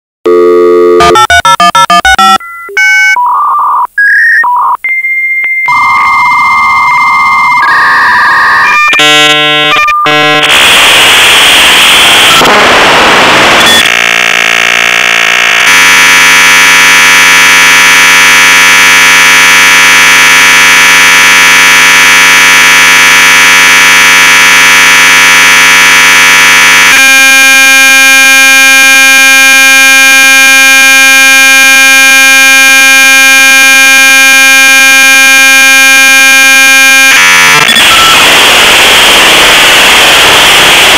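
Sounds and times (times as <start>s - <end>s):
modem tones and static: 0.3s - 4.8s, 5.7s - 40.9s
dial-up modem beep: 0.3s - 13.9s, 15.7s - 40.9s.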